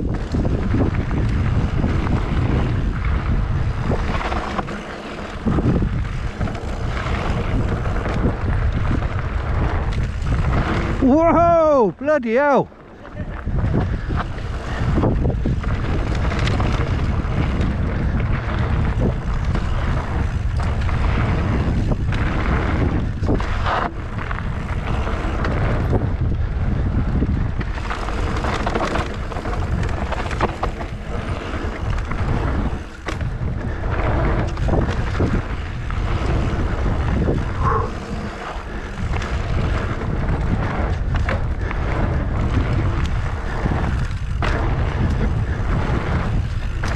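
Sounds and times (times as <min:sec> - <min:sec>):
bike rattling over bumps: 0:00.0 - 0:46.9
bike tyres rumbling on dirt: 0:00.0 - 0:46.9
wind buffeting microphone: 0:00.0 - 0:46.9.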